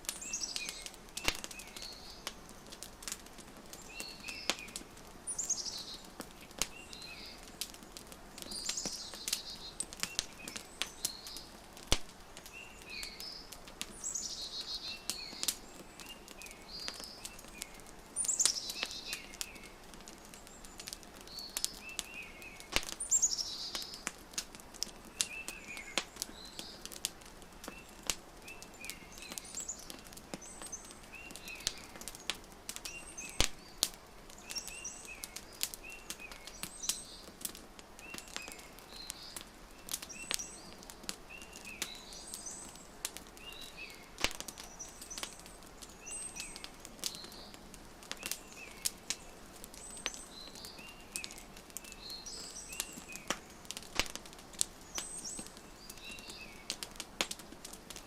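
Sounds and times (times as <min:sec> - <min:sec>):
small birds chirping: 0:00.0 - 0:58.0
wood fire crackling and popping: 0:00.0 - 0:58.0.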